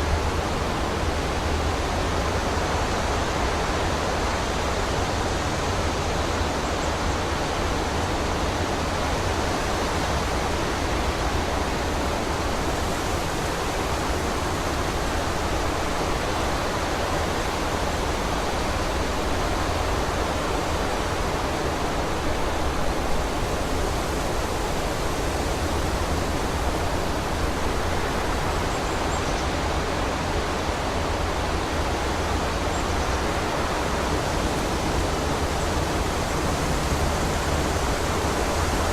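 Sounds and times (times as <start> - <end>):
wind rushing through forest: 0.0 - 38.9.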